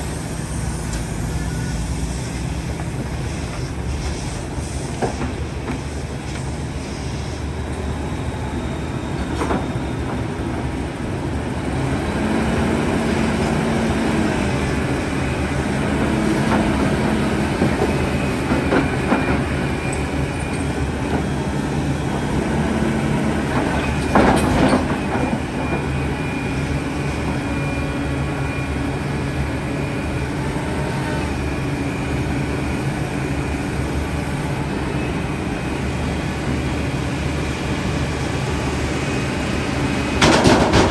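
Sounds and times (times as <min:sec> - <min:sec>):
excavator engine drone: 0:00.0 - 0:40.9.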